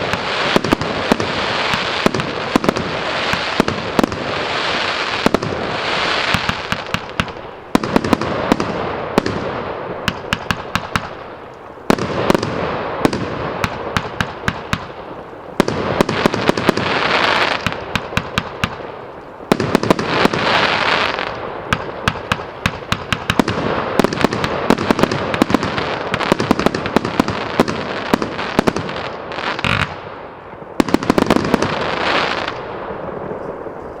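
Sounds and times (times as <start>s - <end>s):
firework rapid sharp bangs: 0.0s - 11.2s, 11.8s - 18.9s, 19.5s - 30.0s, 30.8s - 32.7s
firework hissing and crackling: 0.0s - 30.0s, 30.7s - 34.0s.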